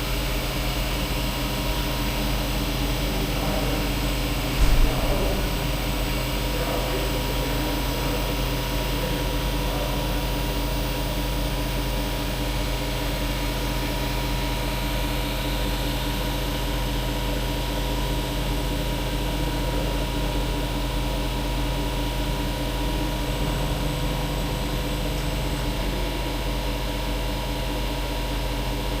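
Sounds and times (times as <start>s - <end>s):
machine hum with tones: 0.0s - 29.0s.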